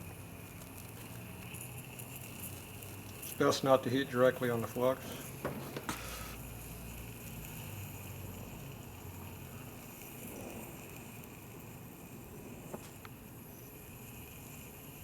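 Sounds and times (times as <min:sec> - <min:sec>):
gas torch flame hissing: 0:00.1 - 0:15.0.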